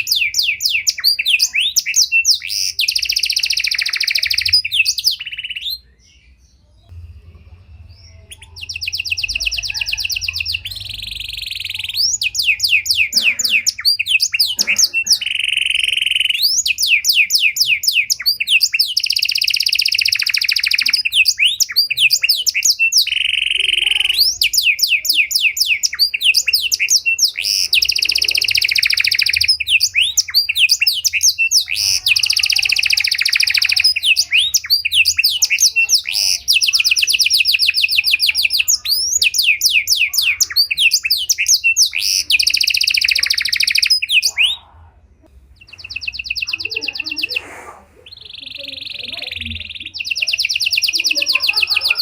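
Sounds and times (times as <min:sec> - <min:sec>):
canary singing: 0:00.0 - 0:52.0.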